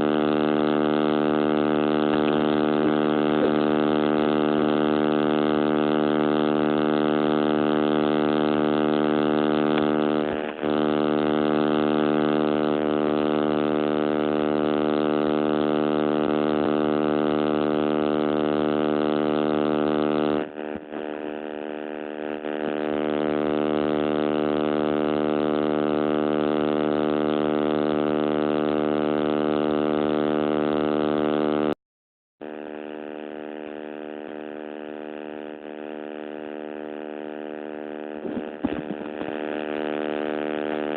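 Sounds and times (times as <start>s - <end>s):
loud electrical buzz: 0.0s - 31.7s, 32.4s - 40.9s.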